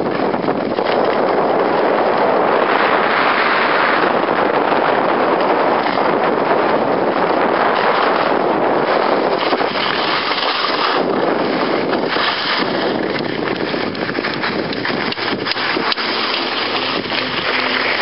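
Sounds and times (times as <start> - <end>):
wind on microphone: 0.0 - 18.0
skis sliding over snow: 0.7 - 18.0.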